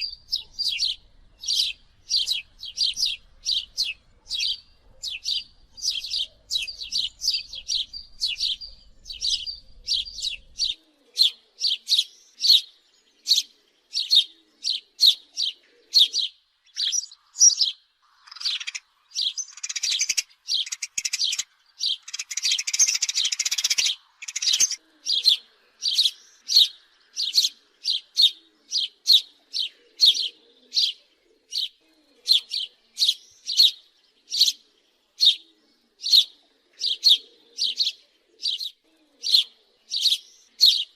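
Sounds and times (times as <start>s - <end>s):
sparrow chirping: 0.0s - 40.9s.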